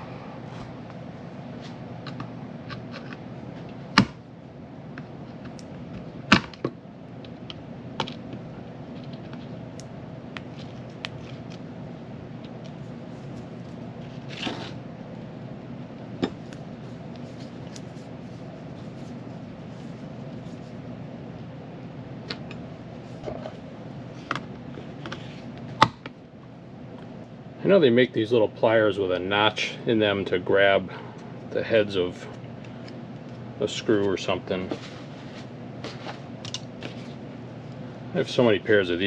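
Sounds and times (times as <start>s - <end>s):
low hum: 0.0s - 38.4s.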